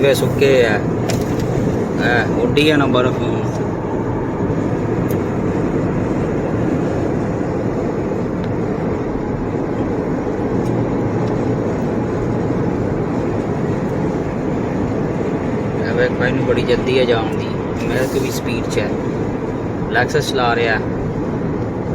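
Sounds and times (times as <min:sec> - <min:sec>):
car road and tyre noise: 0:00.0 - 0:21.9.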